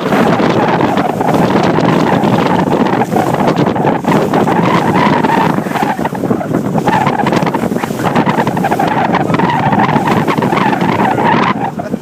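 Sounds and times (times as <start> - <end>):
outboard motor running: 0.0 - 12.0
water rushing: 0.0 - 12.0
wind buffeting microphone: 0.0 - 12.0.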